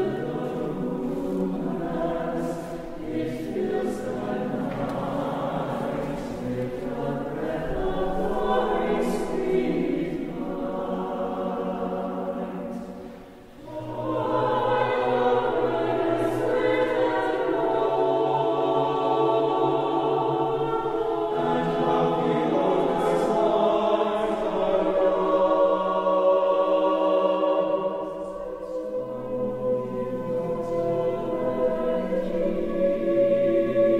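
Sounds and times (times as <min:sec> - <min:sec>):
choir singing sustained chords: 0:00.0 - 0:33.9.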